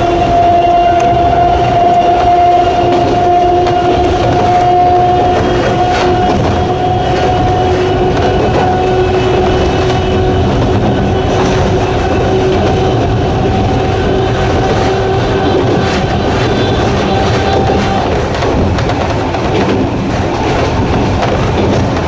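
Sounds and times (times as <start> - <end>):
electric train motor whine: 0.0 - 18.4
train wheels rumbling: 0.0 - 22.0.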